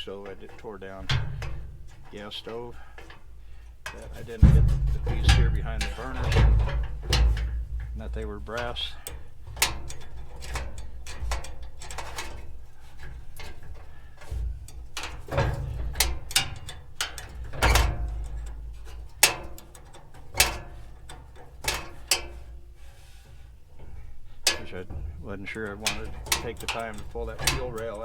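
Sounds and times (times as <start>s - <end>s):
metallic clicks and clinks: 0.0s - 22.6s, 23.8s - 28.0s.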